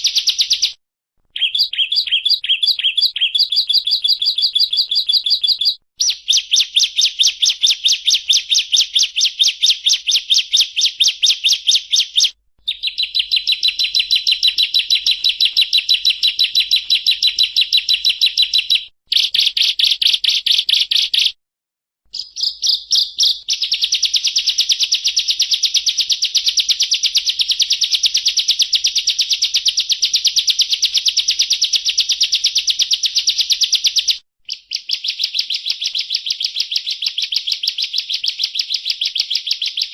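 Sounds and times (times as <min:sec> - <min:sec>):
bird singing rapid trill: 0:00.0 - 0:21.4, 0:22.1 - 0:39.9.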